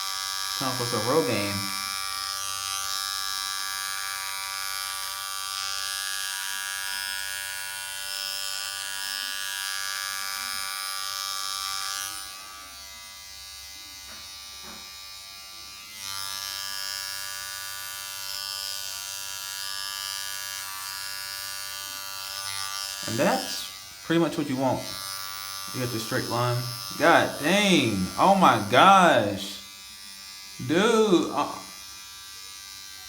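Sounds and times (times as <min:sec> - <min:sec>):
electric hair clippers buzzing: 0:00.0 - 0:33.0.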